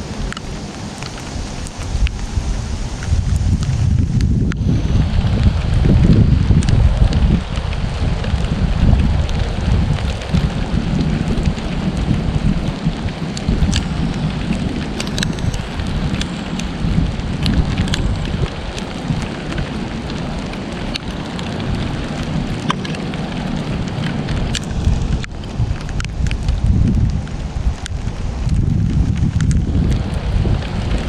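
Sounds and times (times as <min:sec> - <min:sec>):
rain falling: 0:00.0 - 0:31.0
wind on microphone: 0:00.0 - 0:31.0.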